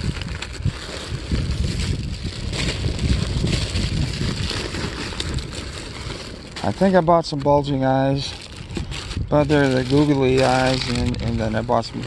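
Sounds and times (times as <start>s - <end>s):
plastic bags crinkling: 0.0s - 12.0s
wind buffeting microphone: 0.0s - 12.0s.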